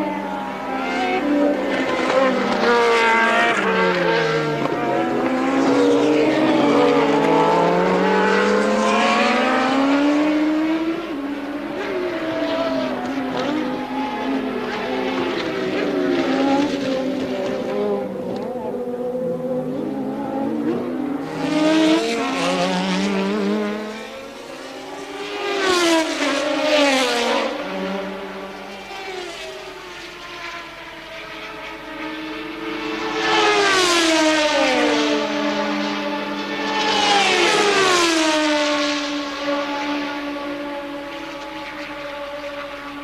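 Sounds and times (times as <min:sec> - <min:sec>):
racing cars passing at high revs: 0:00.0 - 0:43.0.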